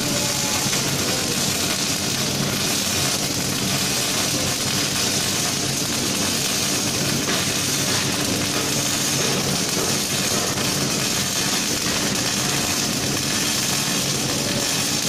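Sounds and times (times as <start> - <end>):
welding arc crackling hiss: 0.0 - 15.0.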